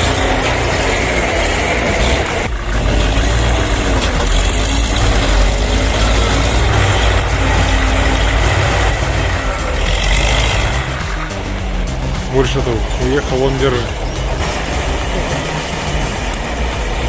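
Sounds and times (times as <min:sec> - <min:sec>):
heavy engines rumbling under load: 0:00.0 - 0:16.4.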